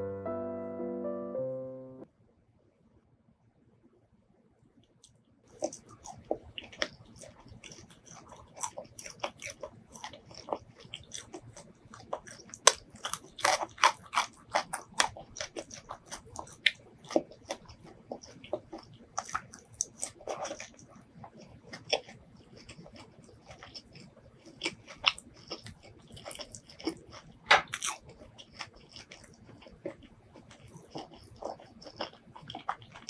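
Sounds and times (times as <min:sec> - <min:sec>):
chewing crispy food: 0:05.0 - 0:33.0.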